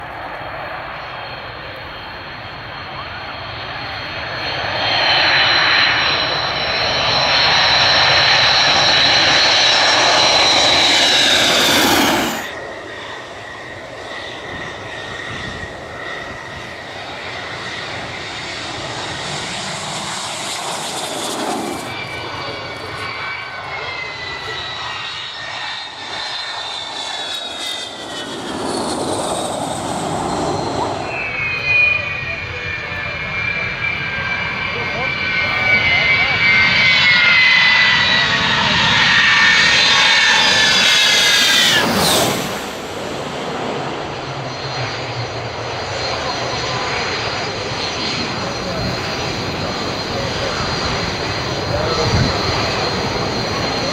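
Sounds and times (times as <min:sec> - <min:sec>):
aircraft engine whining: 0:00.0 - 0:53.9.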